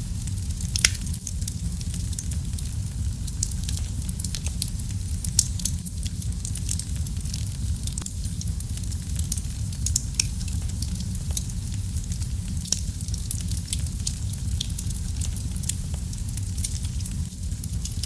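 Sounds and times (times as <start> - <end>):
fire crackling and popping: 0.0 - 18.0
fire rumbling: 0.0 - 18.0.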